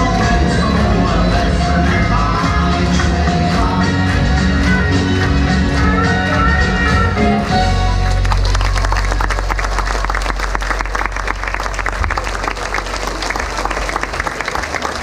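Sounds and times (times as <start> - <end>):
audience applauding: 0.0 - 6.5, 7.2 - 15.0.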